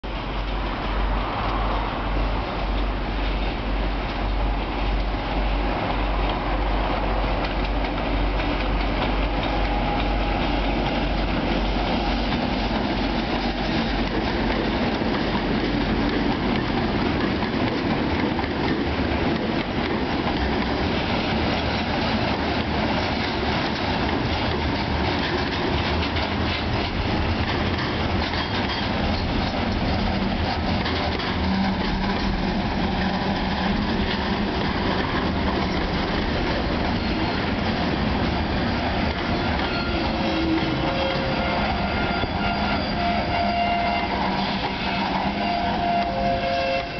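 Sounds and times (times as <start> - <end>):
diesel locomotive engines rumbling: 0.0 - 46.9
train wheels rolling on rails: 0.0 - 46.9.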